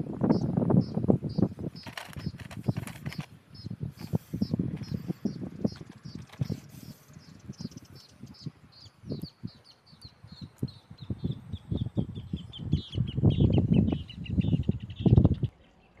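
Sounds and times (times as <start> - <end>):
bird chirping: 0.2 - 16.0.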